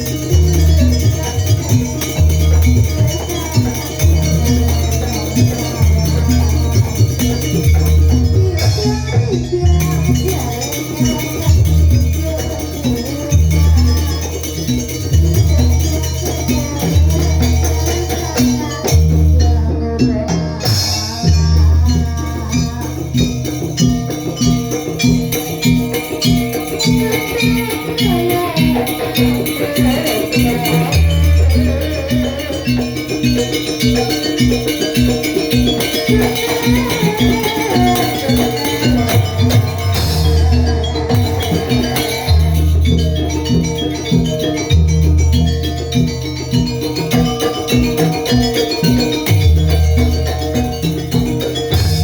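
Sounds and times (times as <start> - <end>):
drums and percussion beat: 0.0 - 52.0
jingling rattle: 0.0 - 52.0.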